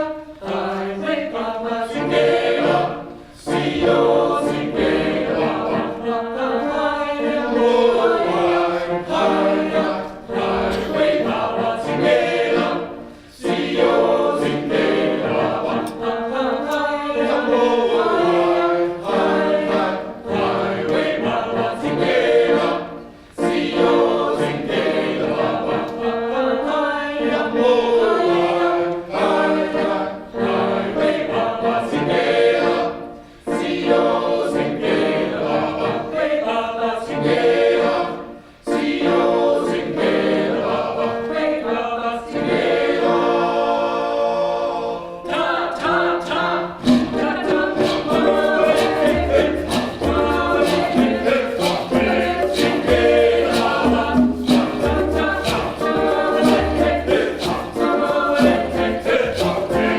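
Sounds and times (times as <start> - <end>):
male choir singing a cappella: 0.0 - 59.9.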